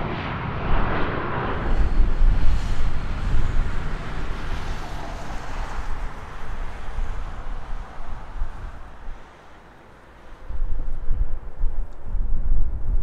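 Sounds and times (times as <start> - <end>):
jet engines rumbling: 0.0 - 12.8.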